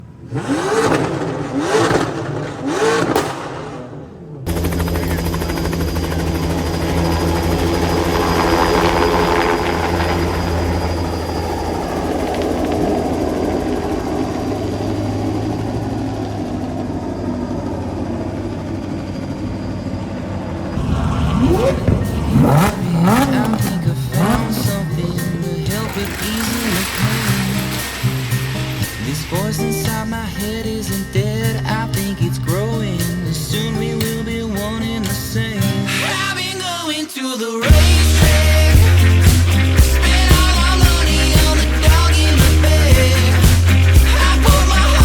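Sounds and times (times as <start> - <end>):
engine revving in blips: 0.0 - 20.0, 20.7 - 35.4, 37.6 - 45.0.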